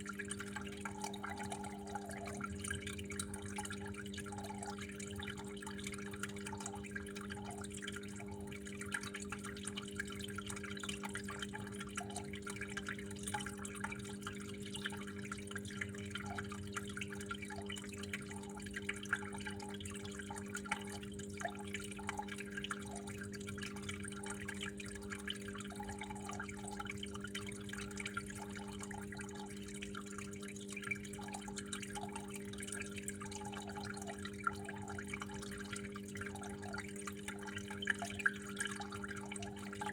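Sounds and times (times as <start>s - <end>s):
small water plops: 0.0s - 39.9s
water trickling and dripping: 0.0s - 39.9s.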